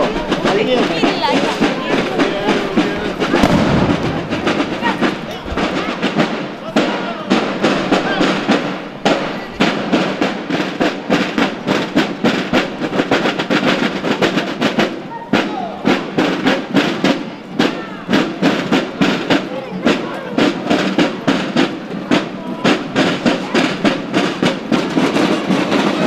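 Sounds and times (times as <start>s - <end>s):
crowd voices: 0.0s - 26.0s
marching snare and bass drums: 0.0s - 26.0s.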